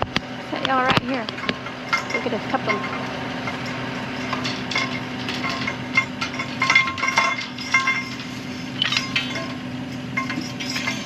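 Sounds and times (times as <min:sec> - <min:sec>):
steady low hum: 0:00.0 - 0:11.0
metal pipes clinking and clanking: 0:00.7 - 0:11.0.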